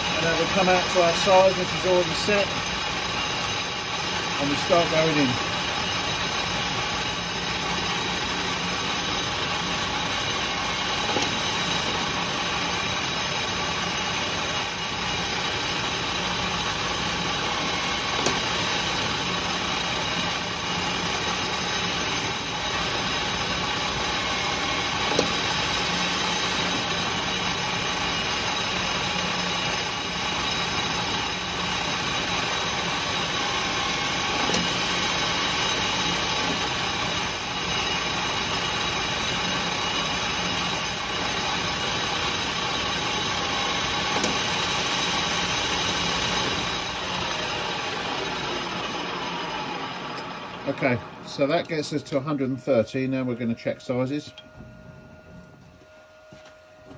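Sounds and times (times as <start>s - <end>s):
metal lathe whining: 0.0s - 56.9s.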